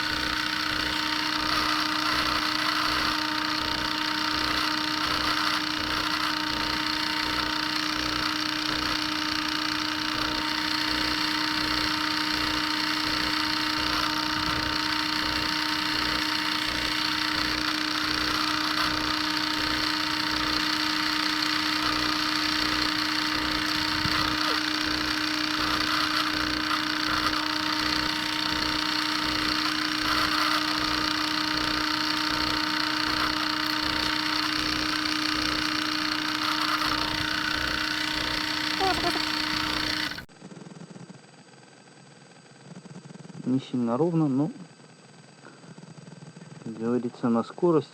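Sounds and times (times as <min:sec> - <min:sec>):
mini drill whining: 0:00.0 - 0:40.3.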